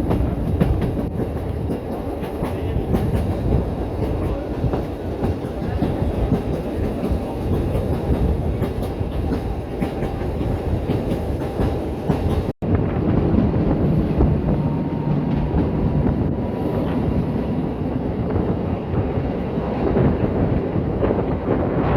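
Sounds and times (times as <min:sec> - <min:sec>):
steam train rolling rumble: 0:00.0 - 0:21.9.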